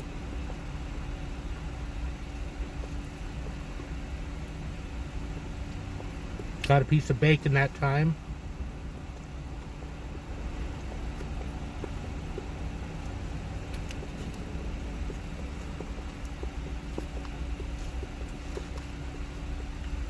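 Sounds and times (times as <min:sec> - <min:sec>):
faint chewing clicks: 0:00.0 - 0:07.6, 0:08.4 - 0:20.0
car cabin hum: 0:00.0 - 0:20.0.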